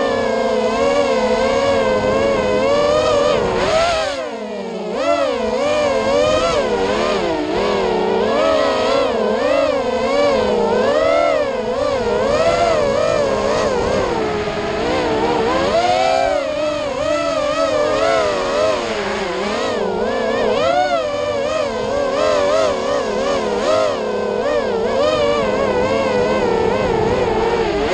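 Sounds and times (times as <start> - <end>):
quadcopter motors whining: 0.0 - 27.9.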